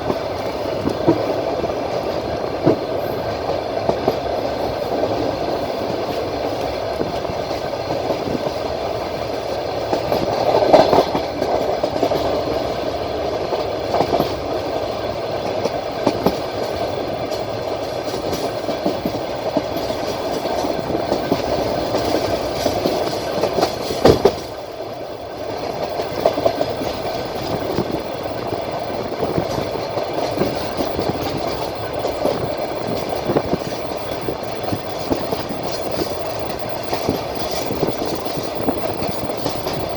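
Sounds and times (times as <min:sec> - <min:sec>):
train wheels rolling on rails: 0:00.0 - 0:39.9
wheels clicking over rail joints: 0:00.0 - 0:39.9.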